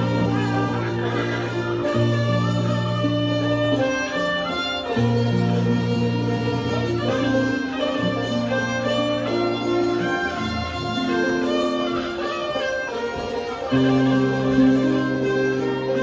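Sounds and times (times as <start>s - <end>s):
held bass notes: 0.0s - 16.0s
wavering held melody: 0.0s - 16.0s.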